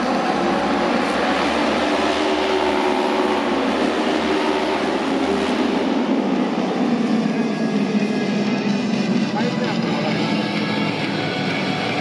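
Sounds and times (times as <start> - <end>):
racing motorcycle engines droning: 0.0 - 12.0.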